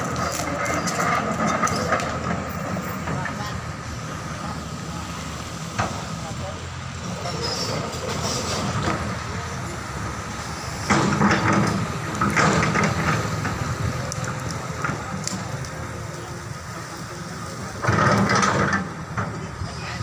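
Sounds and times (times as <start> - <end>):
excavator diesel engine surging: 0.0 - 20.0.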